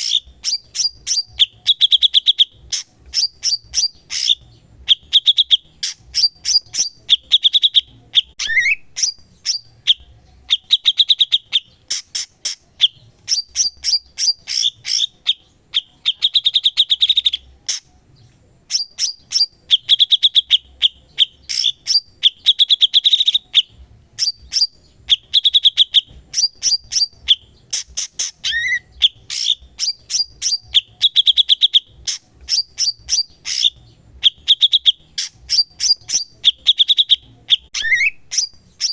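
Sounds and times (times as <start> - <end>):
songbird singing chirps and trills: 0.0 - 38.9.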